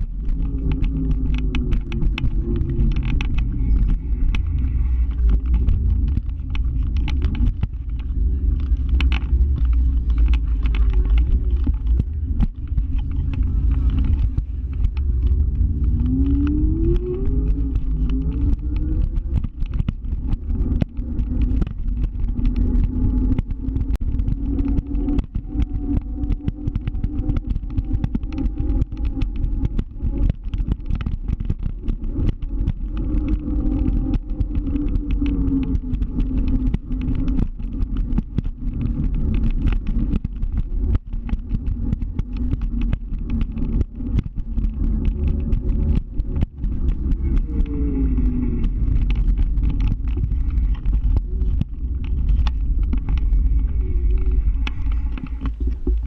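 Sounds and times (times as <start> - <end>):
motor scooter engine running: 0.0 - 56.0.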